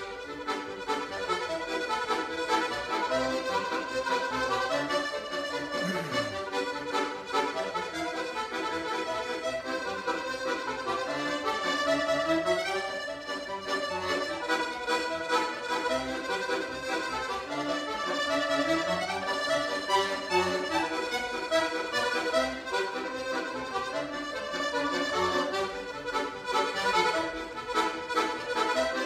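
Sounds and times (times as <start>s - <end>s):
accordion playing: 0.0s - 29.0s.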